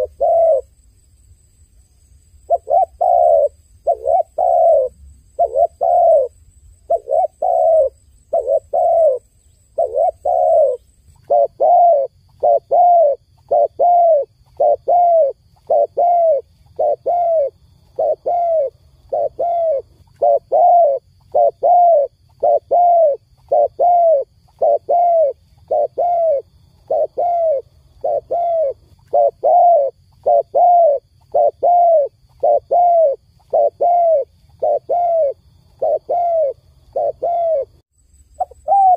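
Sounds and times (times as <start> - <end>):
dove cooing: 0.0 - 0.7, 2.5 - 37.8, 38.4 - 38.9.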